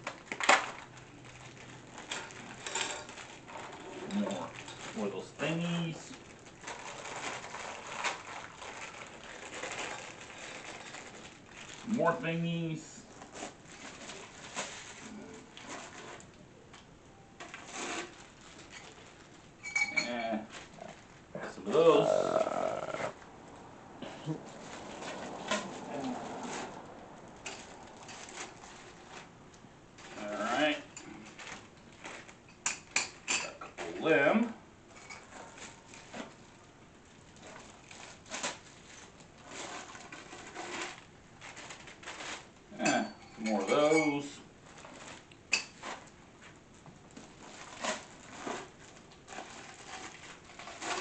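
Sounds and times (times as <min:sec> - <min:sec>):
plastic packaging crinkling: 0:00.0 - 0:12.4, 0:13.0 - 0:16.4, 0:17.4 - 0:19.7, 0:20.5 - 0:21.4, 0:24.4 - 0:30.6, 0:31.2 - 0:32.6, 0:34.9 - 0:42.7, 0:44.5 - 0:51.0.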